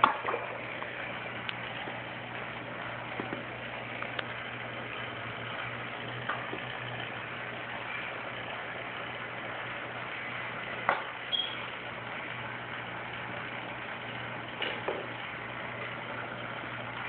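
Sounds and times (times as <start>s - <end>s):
aquarium equipment humming: 0.0s - 17.0s.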